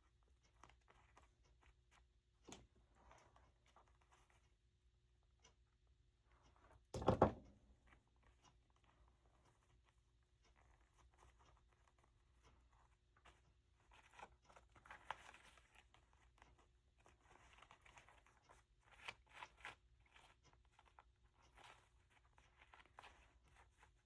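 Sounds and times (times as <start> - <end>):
paper and lace crinkling: 0.3 - 4.5, 7.8 - 24.0.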